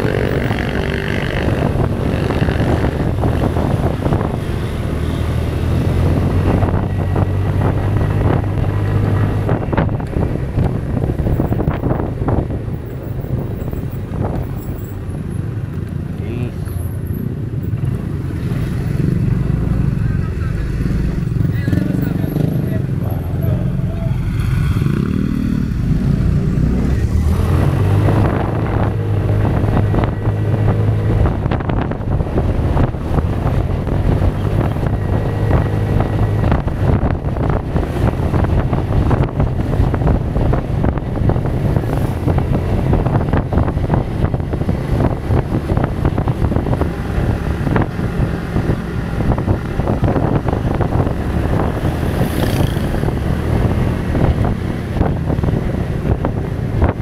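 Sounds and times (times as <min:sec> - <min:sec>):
wind buffeting microphone: 0:00.0 - 0:15.7, 0:22.4 - 0:57.0.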